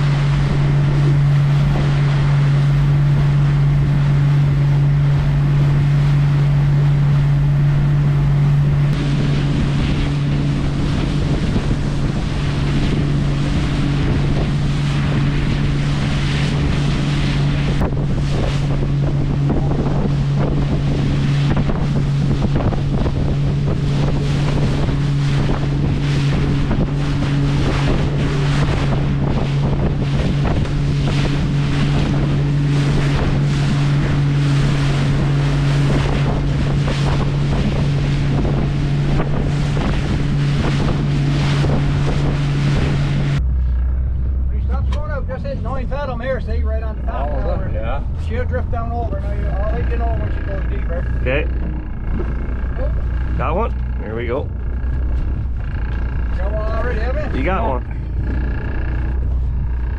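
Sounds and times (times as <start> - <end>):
boat engine droning: 0.0 - 59.9
higher hum: 0.0 - 59.9
wind buffeting microphone: 0.0 - 59.9.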